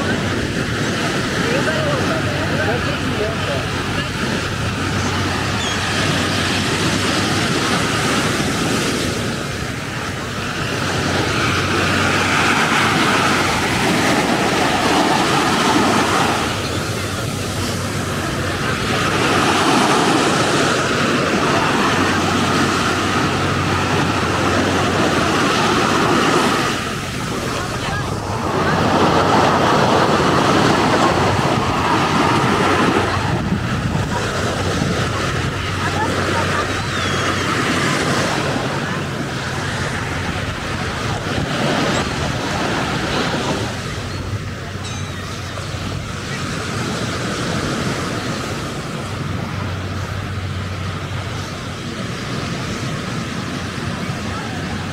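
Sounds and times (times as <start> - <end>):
ocean surf washing on beach: 0.0 - 54.9.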